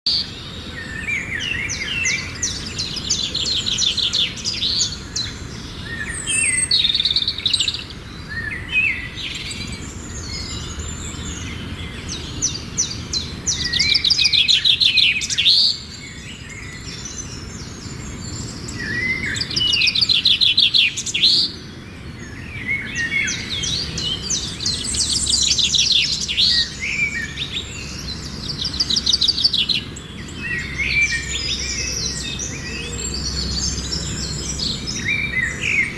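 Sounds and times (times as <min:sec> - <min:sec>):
songbird trilling: 0:00.1 - 0:35.9.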